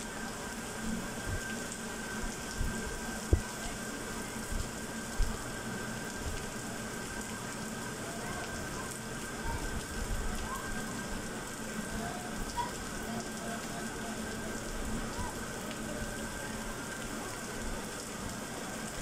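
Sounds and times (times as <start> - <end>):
heavy rain on wet street: 0.0 - 19.0.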